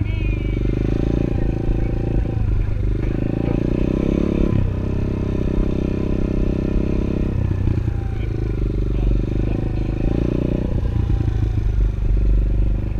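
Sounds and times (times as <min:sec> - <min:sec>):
small motorbike engine revving: 0:00.0 - 0:12.9.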